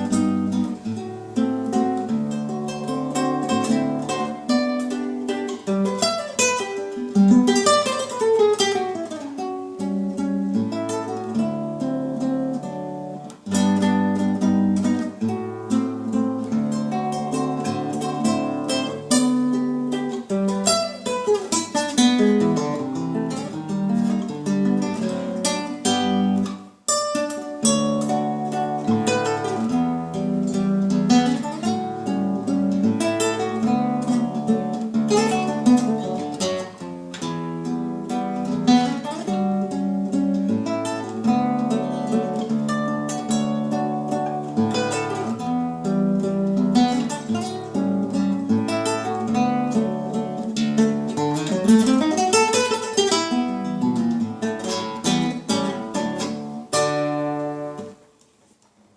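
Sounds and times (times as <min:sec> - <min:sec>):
acoustic guitar music: 0:00.0 - 0:58.9.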